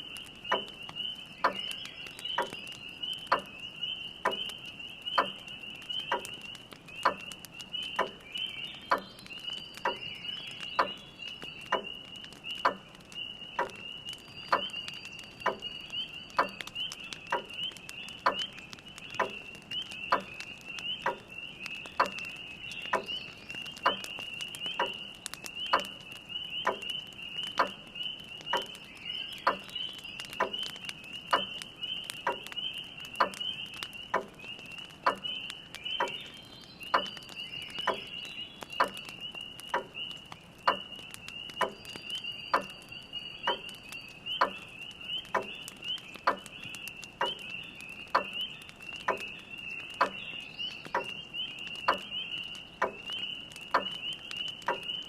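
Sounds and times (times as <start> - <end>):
chorus of spring peepers: 0.0 - 55.0
crackle of wood fire: 0.0 - 55.0.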